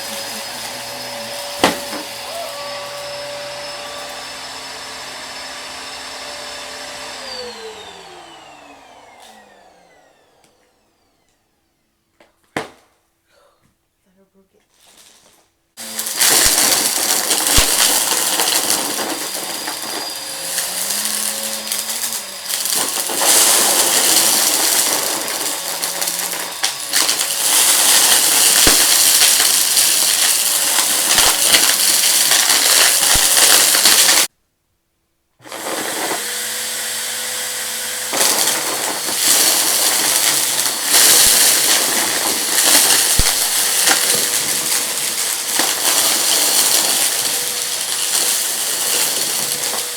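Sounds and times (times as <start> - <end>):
debris rattling in vacuum: 0.0 - 9.9, 14.8 - 34.3, 35.4 - 49.9
vacuum cleaner running: 0.0 - 11.8, 15.8 - 34.3, 35.4 - 49.9.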